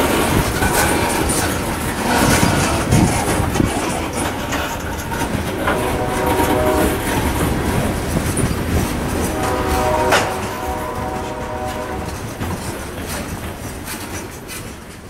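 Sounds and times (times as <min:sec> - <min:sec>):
freight train rumbling past: 0:00.0 - 0:15.0
wheels clicking over rail joints: 0:00.0 - 0:15.0.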